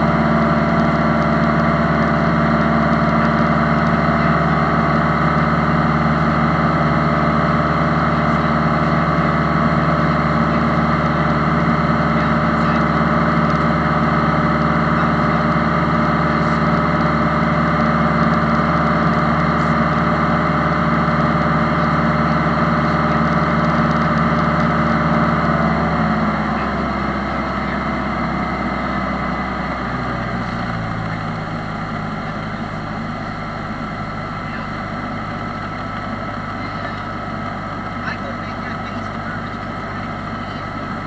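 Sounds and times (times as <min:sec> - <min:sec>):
light airplane engine and propeller: 0:00.0 - 0:41.0.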